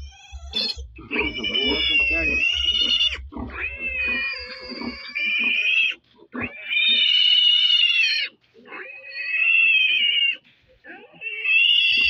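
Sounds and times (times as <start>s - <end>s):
piglet squealing: 0.0s - 12.0s.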